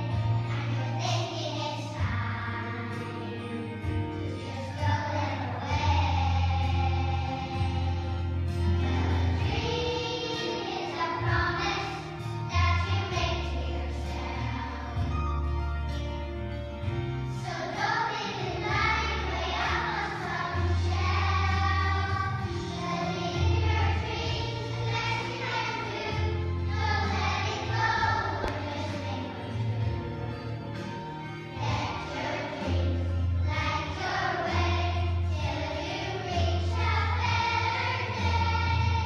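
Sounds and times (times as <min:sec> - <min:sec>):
children singing in a choir: 0:00.0 - 0:15.4, 0:17.3 - 0:39.0
instrumental accompaniment with bass: 0:00.0 - 0:39.0.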